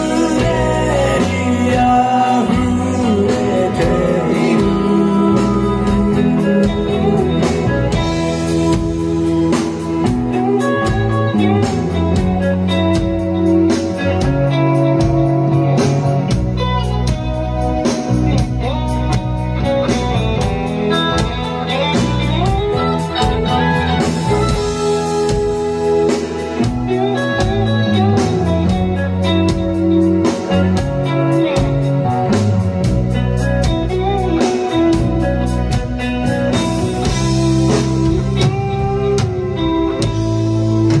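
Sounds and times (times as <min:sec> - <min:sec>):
bass guitar: 0:00.0 - 0:41.0
drum beat with cymbals: 0:00.0 - 0:41.0
electric guitar: 0:00.0 - 0:41.0.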